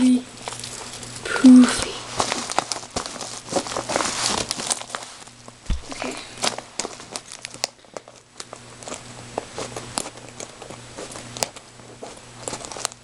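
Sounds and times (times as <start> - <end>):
bubble mailer crinkling: 0.3 - 13.0.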